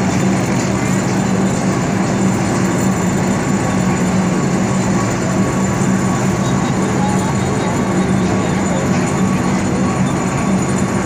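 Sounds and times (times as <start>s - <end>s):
piling machine engine drone: 0.0s - 11.0s.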